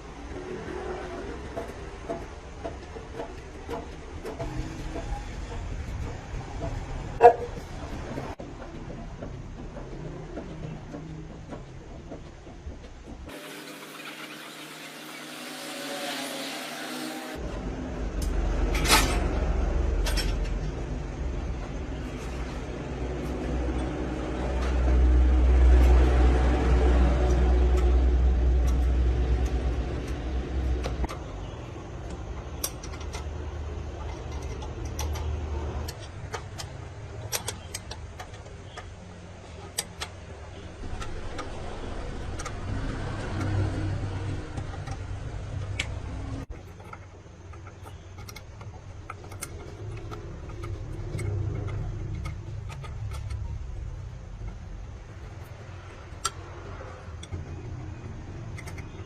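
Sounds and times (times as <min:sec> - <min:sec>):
engine rumbling: 0:00.0 - 0:14.4, 0:17.2 - 0:59.0.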